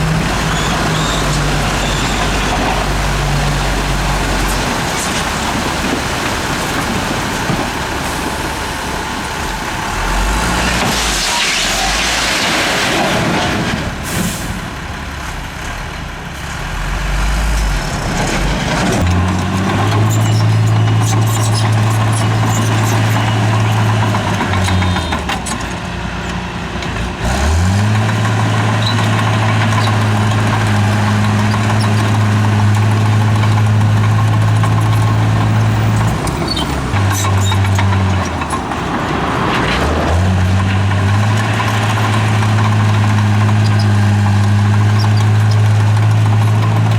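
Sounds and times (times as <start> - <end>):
heavy diesel engine running: 0.0 - 11.3, 13.8 - 46.9.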